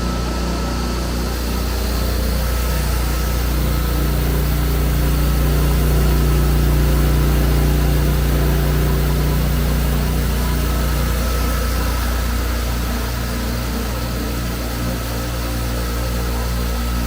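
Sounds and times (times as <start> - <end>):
foam-cutting machine humming: 0.0 - 17.0.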